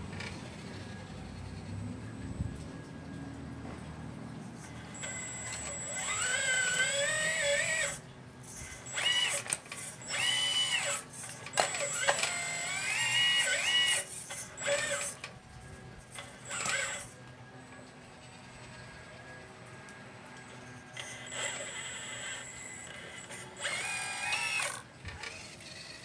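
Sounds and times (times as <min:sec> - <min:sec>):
small electric motors whining: 0:04.5 - 0:26.0.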